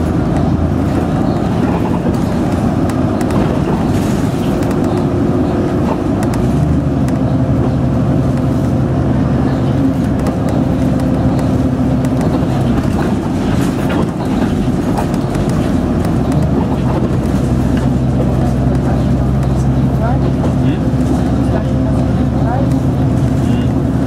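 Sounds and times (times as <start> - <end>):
bus engine and road drone: 0.0 - 24.0.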